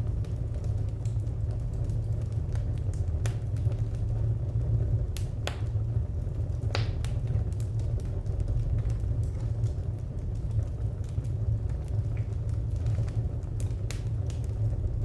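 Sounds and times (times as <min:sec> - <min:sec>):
steady low rumble: 0:00.0 - 0:15.0
wood fire crackling: 0:00.0 - 0:15.0.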